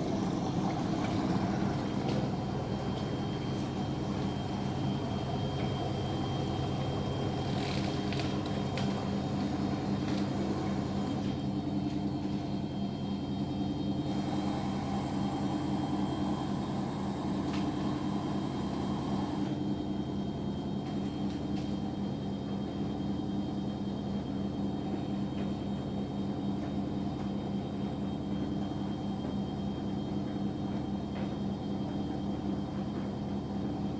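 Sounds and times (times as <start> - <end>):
washing machine running: 0.0 - 33.9.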